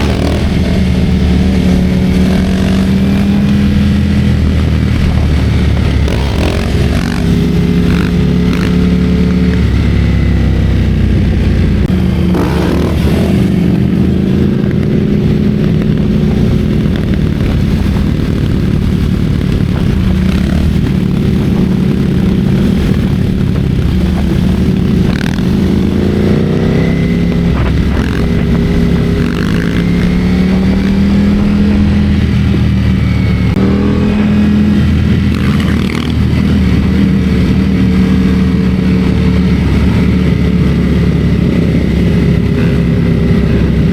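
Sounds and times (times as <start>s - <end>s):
motorcycle engine revving: 0.0s - 43.9s
wind rumble on microphone: 0.0s - 43.9s.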